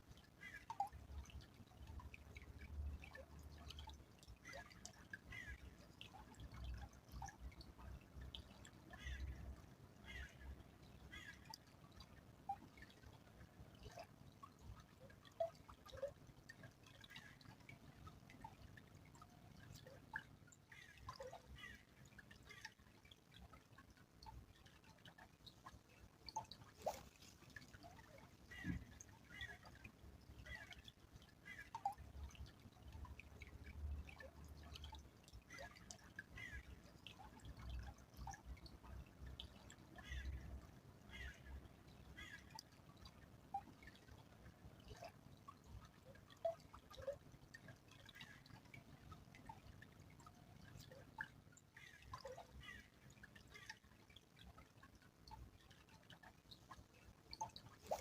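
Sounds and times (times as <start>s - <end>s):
small stream trickling: 0.0s - 58.0s
water drips and plops: 0.0s - 58.0s.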